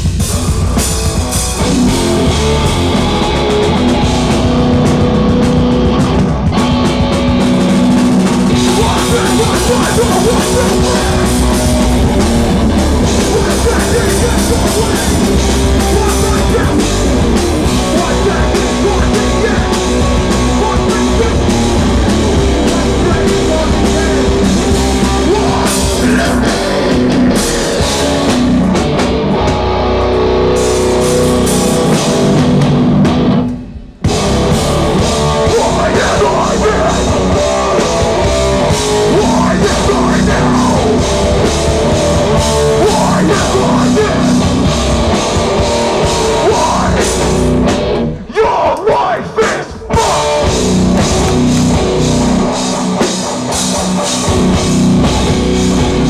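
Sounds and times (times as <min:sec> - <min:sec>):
drum kit: 0:00.0 - 0:48.4, 0:49.4 - 0:56.0
bass guitar: 0:00.0 - 0:56.0
distorted electric guitars: 0:00.0 - 0:56.0.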